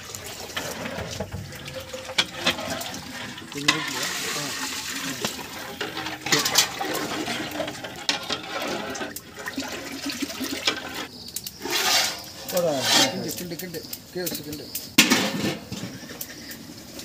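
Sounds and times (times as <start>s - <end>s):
ladle stirring and knocking pot: 0.0s - 13.7s
water pouring into a pot: 0.0s - 14.9s.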